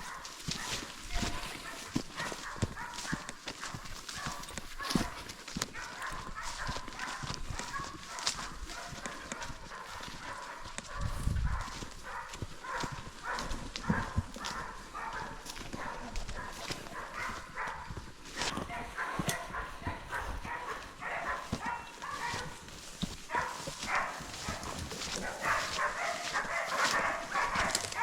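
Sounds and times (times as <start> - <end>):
footsteps and rustling: 0.0 - 28.0
knocks and scuffs: 0.0 - 28.0.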